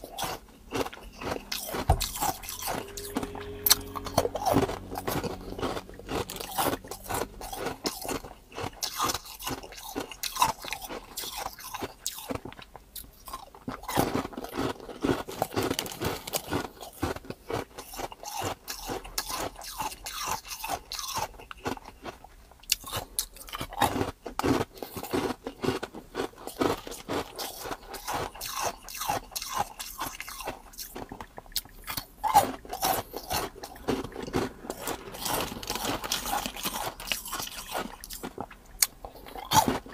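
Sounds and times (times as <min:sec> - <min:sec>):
person crunching ice cubes: 0:00.0 - 0:39.9.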